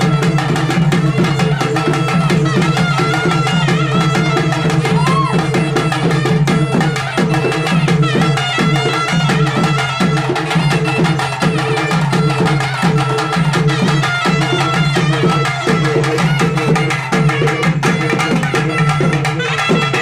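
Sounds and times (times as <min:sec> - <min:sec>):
barrel drums beating fast rhythm: 0:00.0 - 0:20.0
wind instrument high melody: 0:00.0 - 0:20.0.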